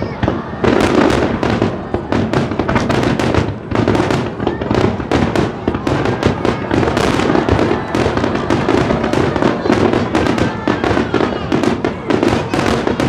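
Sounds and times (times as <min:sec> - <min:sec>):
deep rumble of launches: 0:00.0 - 0:13.0
firework shell bursts and crackling: 0:00.0 - 0:13.0.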